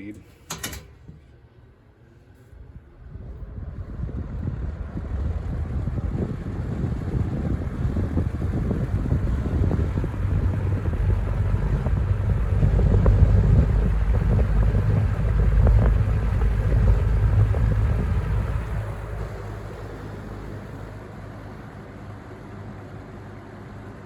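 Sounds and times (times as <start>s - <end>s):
fan air buffeting microphone: 0.0s - 24.0s
fan motor hum: 0.0s - 24.0s.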